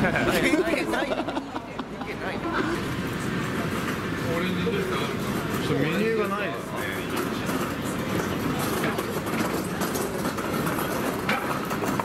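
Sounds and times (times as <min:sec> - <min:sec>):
busy city street noise: 0:00.0 - 0:12.0.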